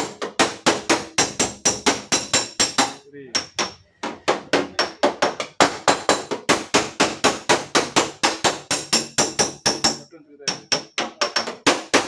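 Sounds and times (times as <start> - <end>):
hammer striking sheet steel: 0.0 - 12.0.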